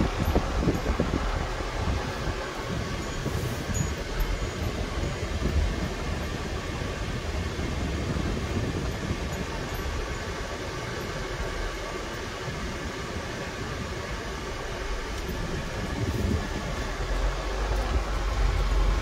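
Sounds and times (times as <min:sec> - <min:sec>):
engine and tyre rumble: 0:00.0 - 0:19.0.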